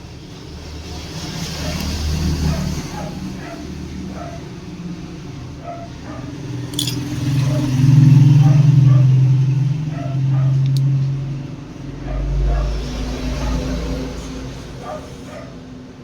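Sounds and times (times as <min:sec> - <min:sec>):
vehicle engine passing: 0:00.4 - 0:16.0.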